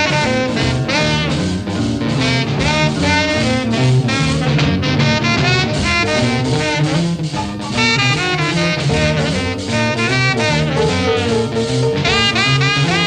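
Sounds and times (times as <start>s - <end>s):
band rhythm section: 0.0s - 13.0s
tenor saxophone solo: 0.0s - 13.0s.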